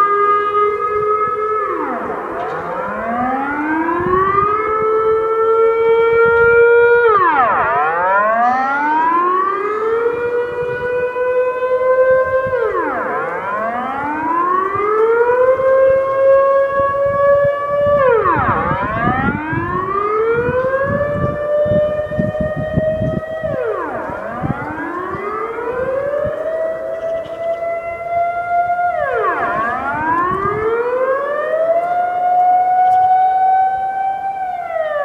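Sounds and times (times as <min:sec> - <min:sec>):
air raid siren wailing: 0:00.0 - 0:35.0.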